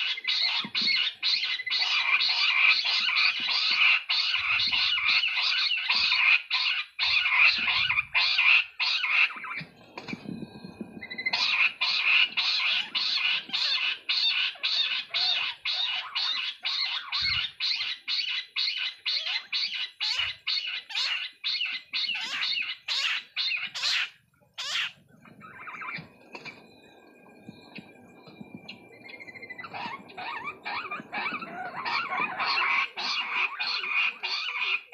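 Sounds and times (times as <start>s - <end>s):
quail calling: 0.0s - 34.9s.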